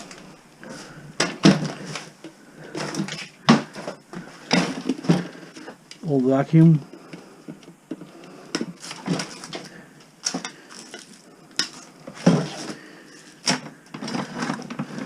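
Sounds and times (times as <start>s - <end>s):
household objects clattering: 0.0s - 5.8s, 7.5s - 15.0s.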